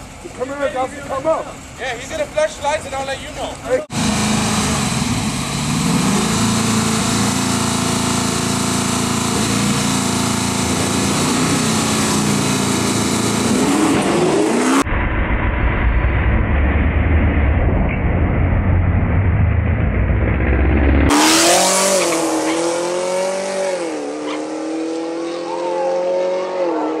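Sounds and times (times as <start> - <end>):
deep heavy engine rumble: 0.0 - 22.3
car engines idling and revving: 0.0 - 27.0.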